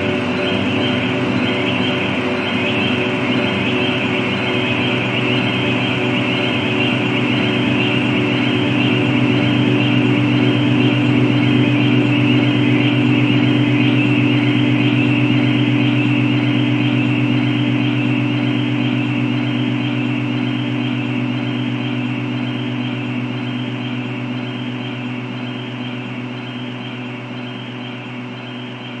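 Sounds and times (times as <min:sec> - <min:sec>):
mechanical drone with low hum: 0:00.0 - 0:29.0.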